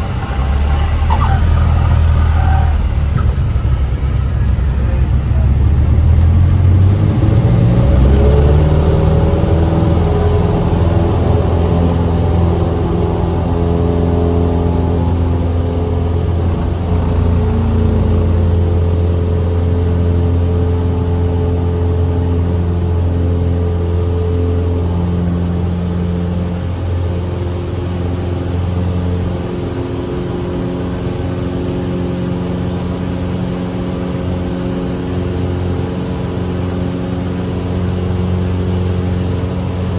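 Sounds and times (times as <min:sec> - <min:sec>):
aircraft piston engine and propeller: 0:00.0 - 0:39.9.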